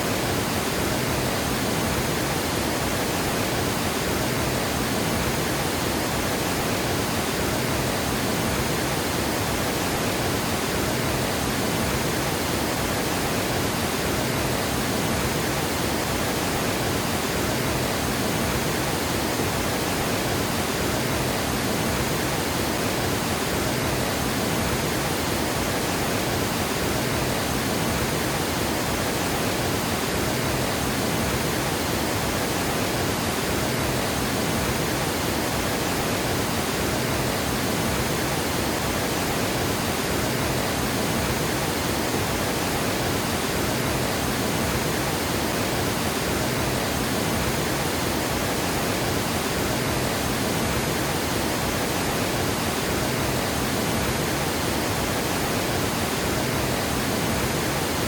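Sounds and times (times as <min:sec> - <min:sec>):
water rushing over a dam: 0:00.0 - 0:58.0.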